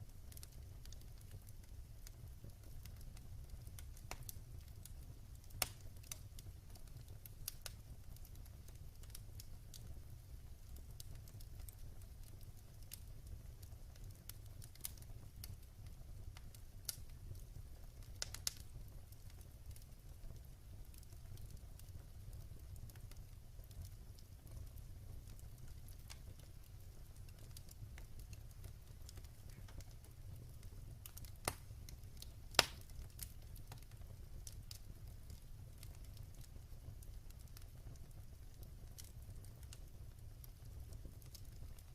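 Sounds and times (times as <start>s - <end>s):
fire crackles and pops: 0.0s - 41.9s
fire flames rumbling: 0.0s - 41.9s.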